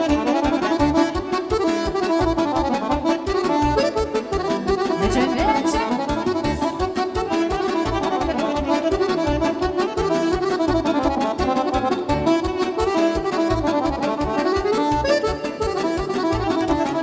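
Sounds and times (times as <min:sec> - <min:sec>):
accordion: 0:00.0 - 0:17.0
saxophone: 0:00.0 - 0:17.0.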